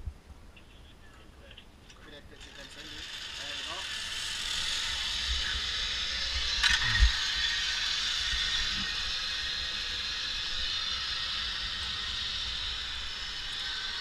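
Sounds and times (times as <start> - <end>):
zip-line pulleys whirring on cable: 2.0 - 14.0.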